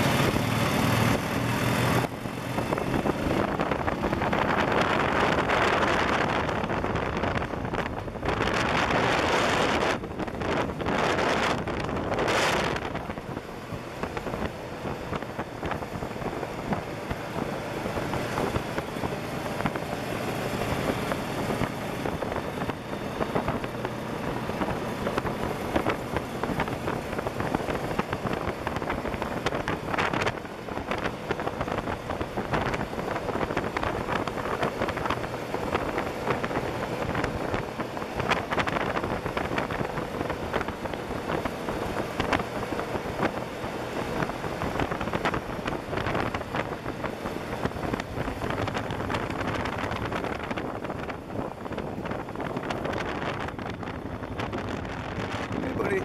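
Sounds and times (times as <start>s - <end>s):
engine drone: 0.0s - 56.0s
wind buffeting microphone: 0.0s - 56.0s.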